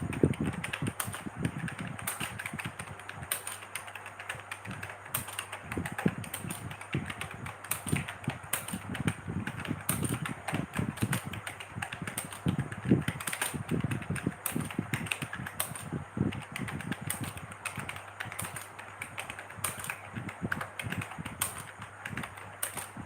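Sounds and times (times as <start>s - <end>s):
keyboard typing clicks: 0.0s - 23.0s.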